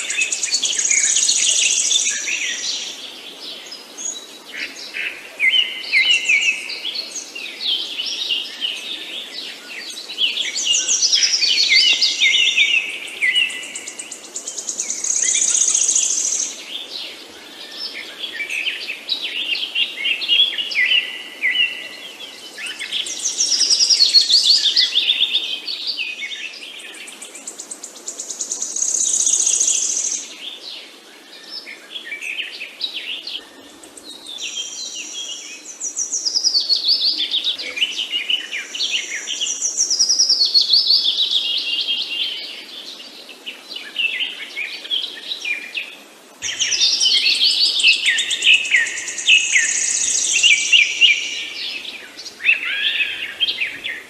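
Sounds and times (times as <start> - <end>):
faint steady background hiss: 0.0 - 54.0
songbirds chirping and trilling: 0.0 - 54.0.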